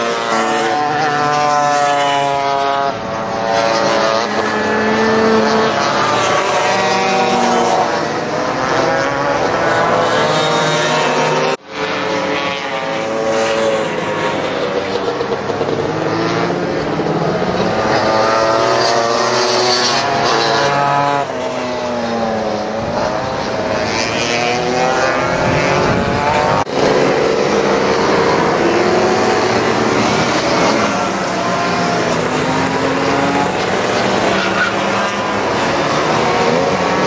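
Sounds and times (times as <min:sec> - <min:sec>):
scooter engines revving and passing: 0:00.0 - 0:37.0.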